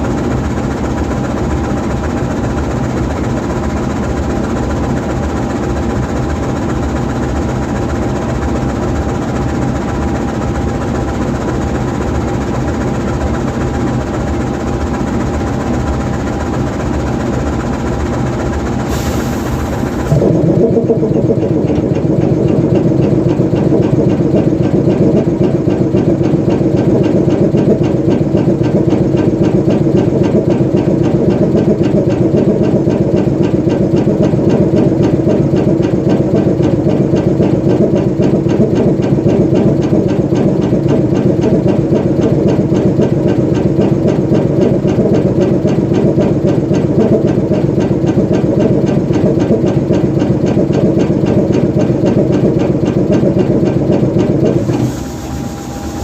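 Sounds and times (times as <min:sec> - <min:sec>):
diesel locomotive engine idling: 0:00.0 - 0:56.0.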